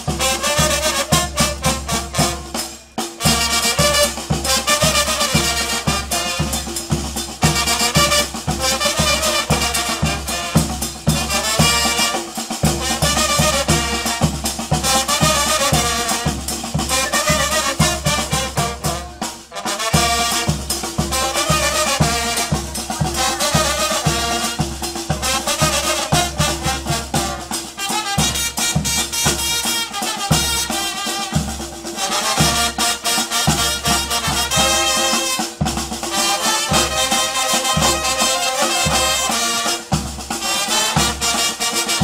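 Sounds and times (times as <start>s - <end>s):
brass instruments playing melody: 0.0s - 42.0s
driving drum beat: 0.0s - 42.0s.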